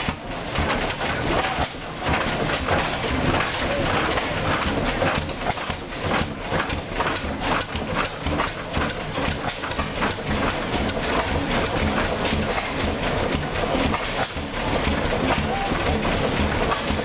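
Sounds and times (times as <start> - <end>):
stationary gas engine running: 0.0 - 17.0.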